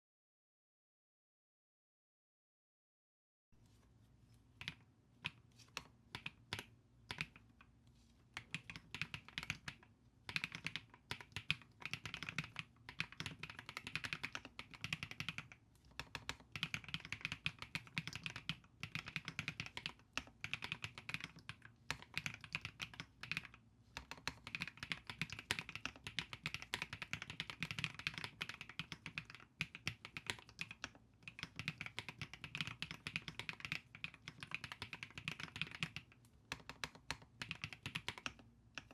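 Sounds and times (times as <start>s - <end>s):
mechanical keyboard typing: 4.6s - 7.4s, 8.4s - 38.9s.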